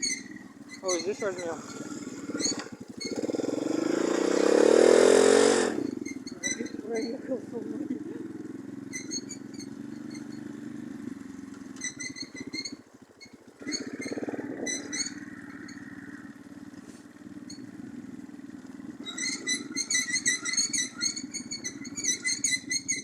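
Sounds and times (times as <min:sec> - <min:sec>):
birds chirping: 0:00.0 - 0:10.6, 0:11.7 - 0:16.5, 0:19.0 - 0:23.0
moped engine running: 0:00.0 - 0:23.0.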